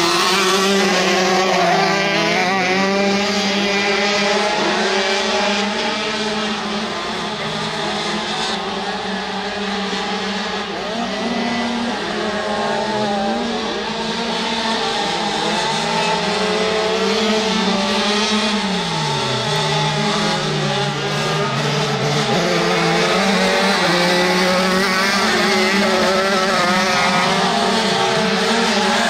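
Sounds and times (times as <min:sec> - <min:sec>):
two-stroke kart engines racing: 0:00.0 - 0:29.0.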